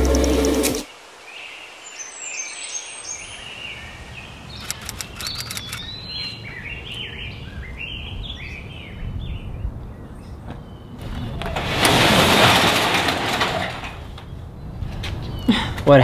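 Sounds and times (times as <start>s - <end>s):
songbirds chirping: 0.0s - 11.6s, 14.0s - 16.0s.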